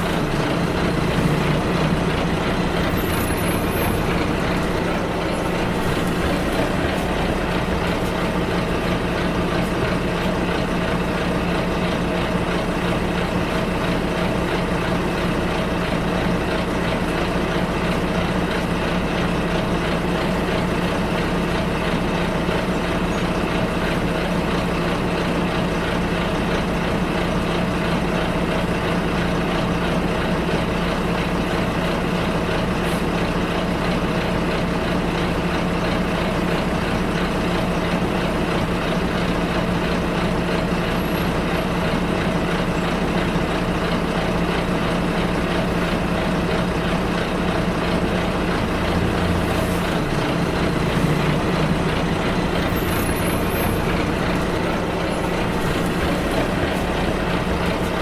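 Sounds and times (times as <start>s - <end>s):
bus engine droning: 0.0s - 58.0s
road and cabin noise: 0.0s - 58.0s.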